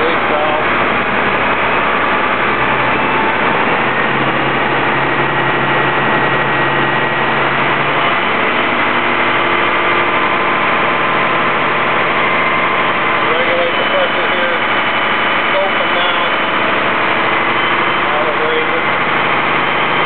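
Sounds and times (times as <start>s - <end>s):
fire engine running loud: 0.0s - 20.0s.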